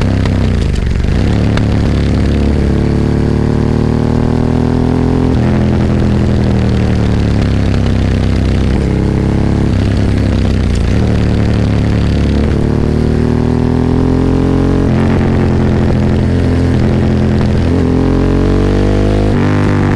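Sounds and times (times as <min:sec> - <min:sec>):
motorcycle engine changing gears: 0:00.0 - 0:19.9.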